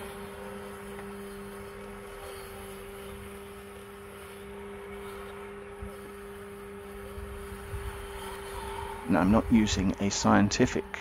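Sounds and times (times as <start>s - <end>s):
robot lawnmower electric hum: 0.0s - 11.0s.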